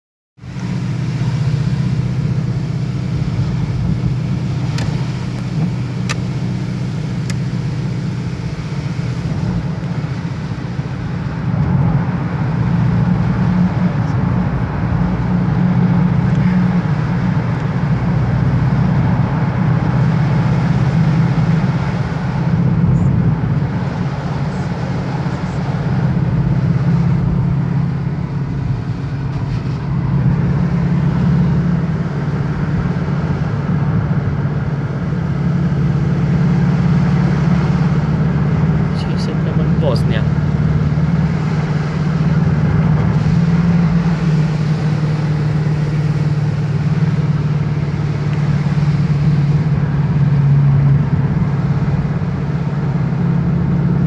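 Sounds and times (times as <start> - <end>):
car engine and road noise: 0.4 - 54.0.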